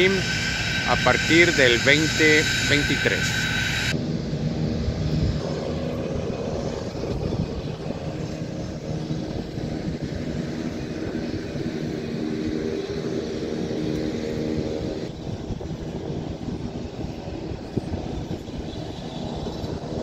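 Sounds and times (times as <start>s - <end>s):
aircraft engines idling: 0.0s - 20.0s.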